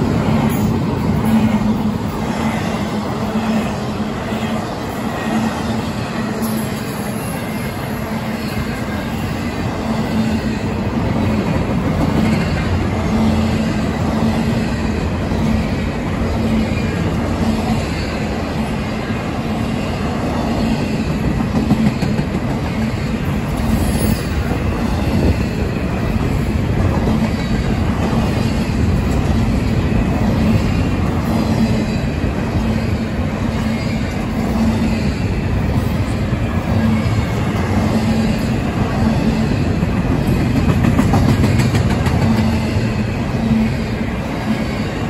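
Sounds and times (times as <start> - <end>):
steel wheels rumbling on rail: 0.0 - 45.0.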